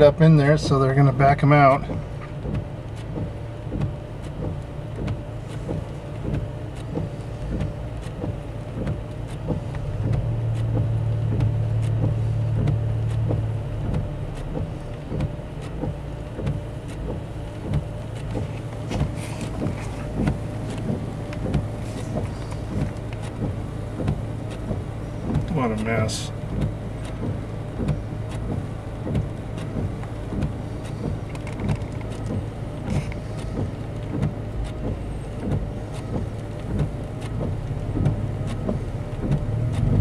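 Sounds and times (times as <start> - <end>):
car engine running in cabin: 0.0 - 40.0.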